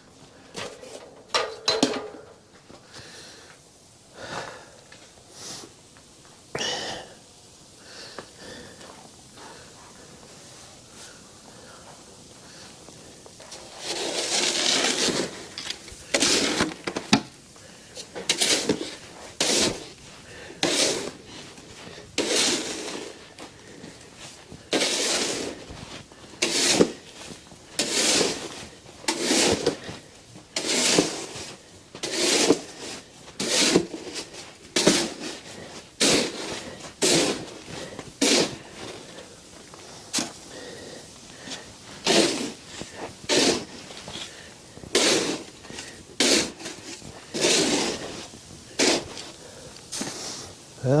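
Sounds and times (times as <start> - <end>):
snow shovel scraping pavement: 0.3 - 3.4, 8.5 - 51.0.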